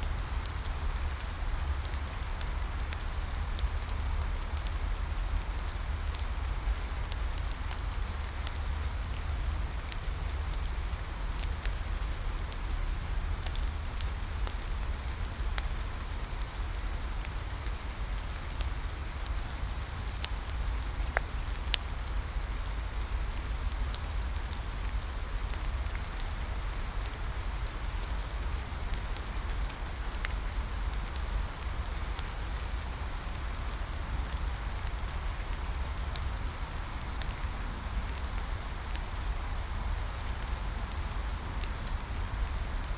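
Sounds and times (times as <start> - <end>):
bonfire crackling: 0.0 - 42.9
steady rain falling: 0.0 - 42.9.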